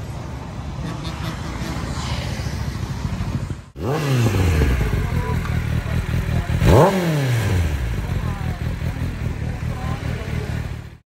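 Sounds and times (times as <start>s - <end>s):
motorcycle engine revving: 1.6s - 11.0s.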